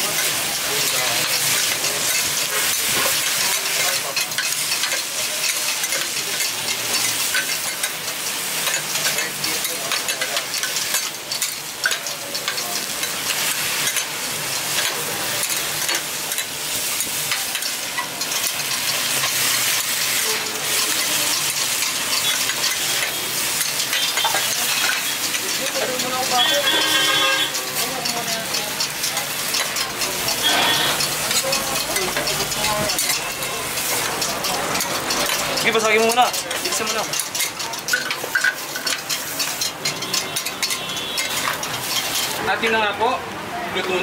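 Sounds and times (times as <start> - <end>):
metal spatula scraping griddle: 0.0 - 42.7
noodles sizzling on a griddle: 0.0 - 44.0.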